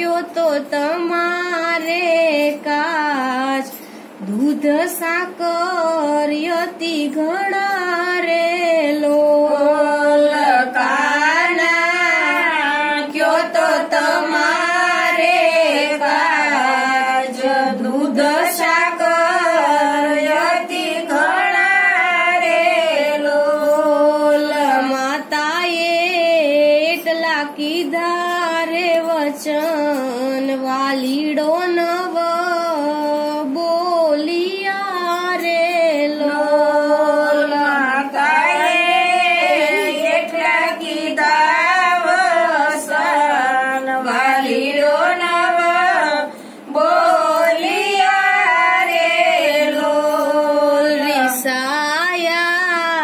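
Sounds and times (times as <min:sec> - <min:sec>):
woman singing unaccompanied: 0:00.0 - 0:53.0.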